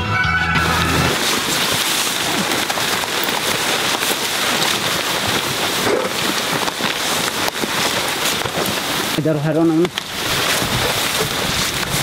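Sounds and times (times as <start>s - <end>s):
steady rain falling: 0.6s - 12.0s.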